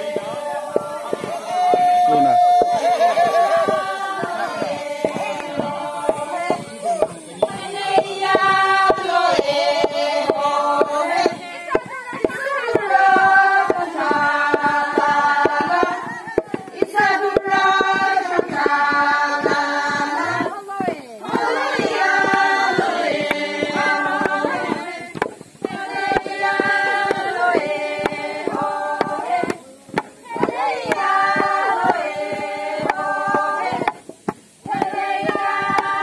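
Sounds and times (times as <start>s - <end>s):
bamboo poles knocking: 0.0s - 36.0s
women singing in chorus: 0.0s - 36.0s.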